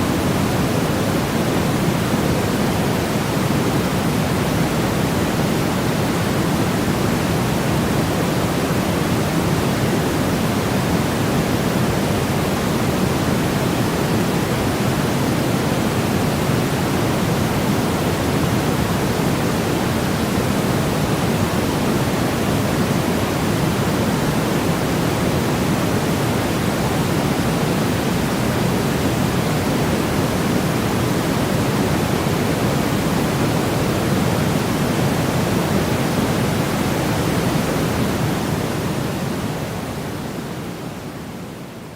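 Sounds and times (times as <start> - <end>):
white noise hiss: 0.0 - 41.9.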